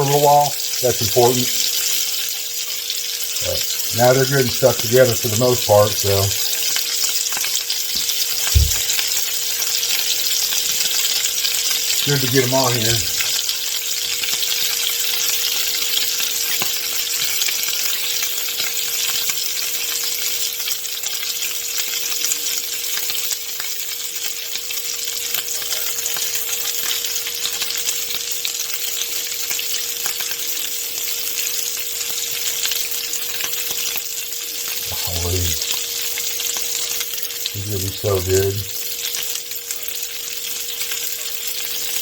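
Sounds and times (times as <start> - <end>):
meat sizzling in a pan: 0.0 - 42.0.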